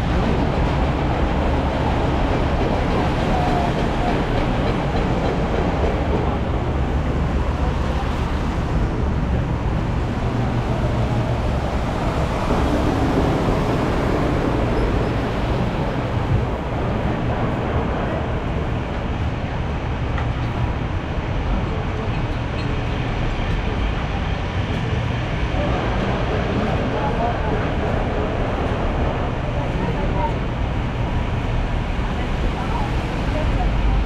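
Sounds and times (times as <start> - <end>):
city traffic rumble: 0.0 - 34.0.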